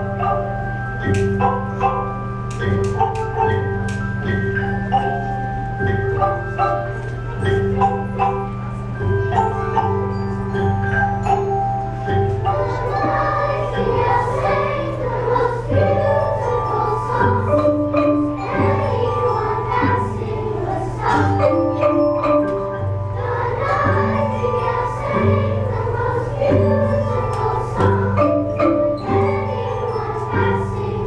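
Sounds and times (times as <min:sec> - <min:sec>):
children's choir singing: 0:00.0 - 0:31.0
xylophones and glockenspiels: 0:00.0 - 0:31.0.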